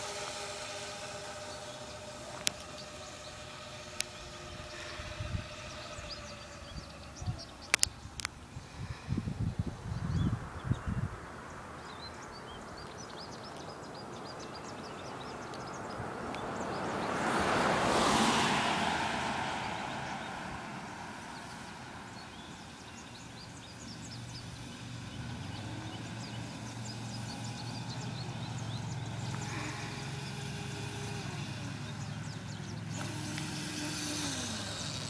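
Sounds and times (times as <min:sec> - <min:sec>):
car passing: 0:00.0 - 0:07.9, 0:14.6 - 0:35.0
motorbike engine droning: 0:00.0 - 0:09.5, 0:15.6 - 0:35.0
birds chirping: 0:00.0 - 0:35.0.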